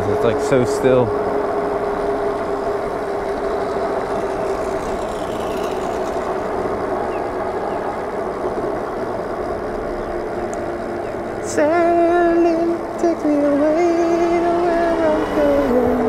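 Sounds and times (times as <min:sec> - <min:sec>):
electric motor whine: 0:00.0 - 0:16.0
tire road noise: 0:00.0 - 0:16.0.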